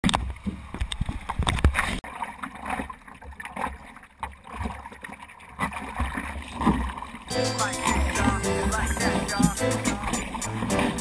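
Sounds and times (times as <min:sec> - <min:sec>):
sea water splashing in surf: 0:01.3 - 0:11.0.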